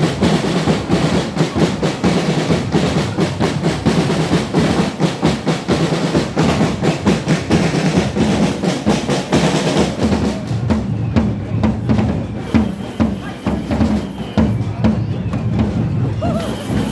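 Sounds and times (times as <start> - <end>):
drumming band playing: 0.0 - 16.9.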